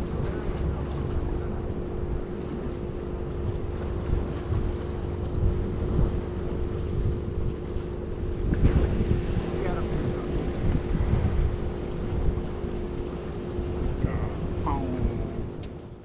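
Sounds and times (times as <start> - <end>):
low motor drone: 0.0 - 16.0
wind buffeting microphone: 0.0 - 16.0.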